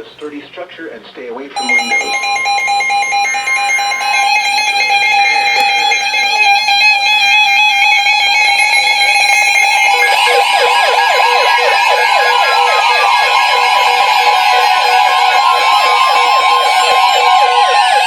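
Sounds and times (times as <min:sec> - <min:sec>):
electronic alarm beep tones: 0:01.6 - 0:18.0
fast warbling siren-like alarm: 0:01.6 - 0:18.0.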